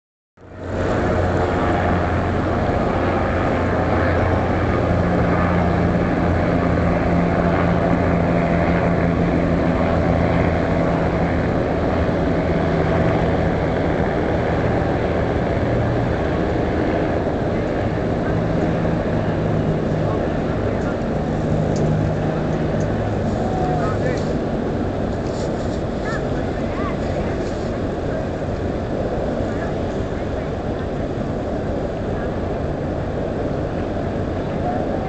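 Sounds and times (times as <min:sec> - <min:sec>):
ship engines droning: 0:00.4 - 0:35.0.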